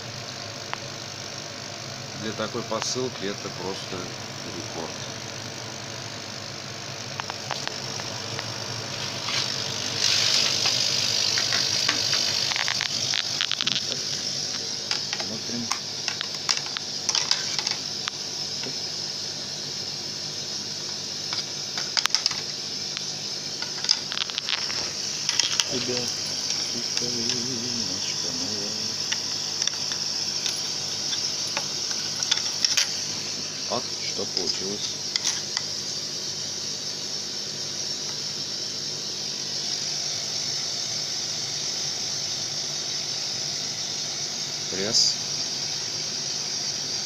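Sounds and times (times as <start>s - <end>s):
laser cutter hissing: 0.0s - 47.0s.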